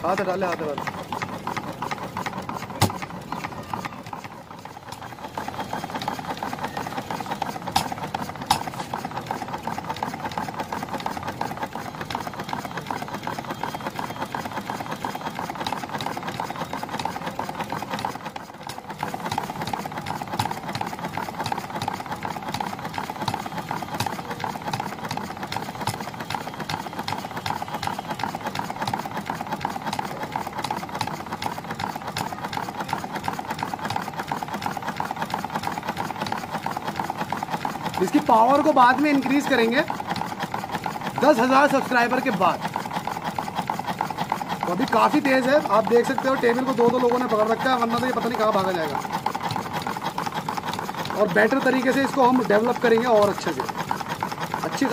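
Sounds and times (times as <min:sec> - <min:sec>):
small engine rattling: 0:00.0 - 0:54.9.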